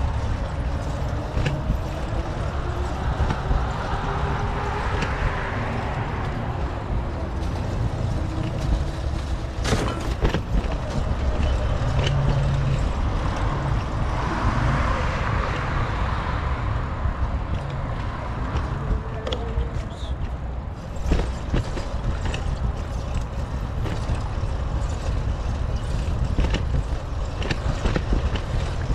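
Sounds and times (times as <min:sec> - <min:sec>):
road traffic: 0:00.0 - 0:28.9
wind rumbling on microphone: 0:00.0 - 0:28.9.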